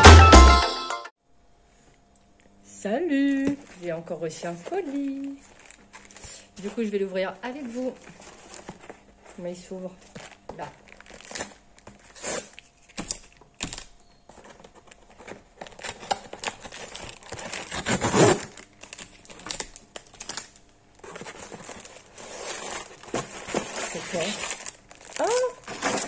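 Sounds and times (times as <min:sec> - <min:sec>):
cardboard rustling and tearing: 0:03.5 - 0:26.0.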